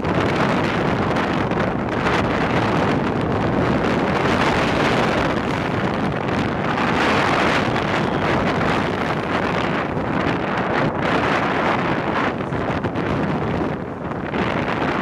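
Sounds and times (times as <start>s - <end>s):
motorcycle noise: 0.0s - 15.0s
wind buffeting microphone: 0.0s - 15.0s.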